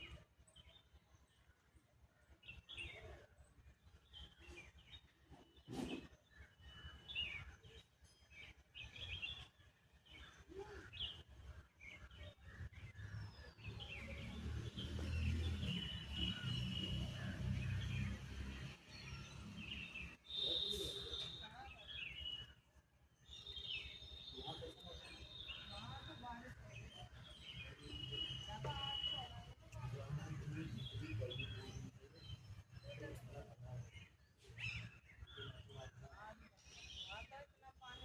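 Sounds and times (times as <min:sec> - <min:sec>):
birds chirping: 0:02.2 - 0:38.0.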